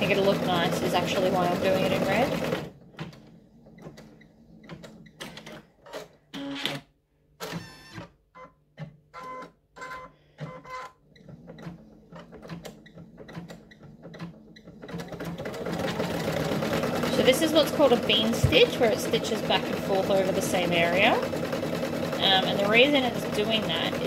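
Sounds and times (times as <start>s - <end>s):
embroidery machine stitching: 0.0s - 6.8s, 9.2s - 24.0s.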